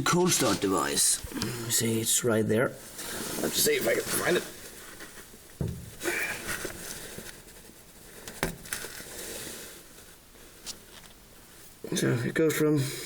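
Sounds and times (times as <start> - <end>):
rustling and scraping: 0.0 - 1.8, 2.8 - 12.1.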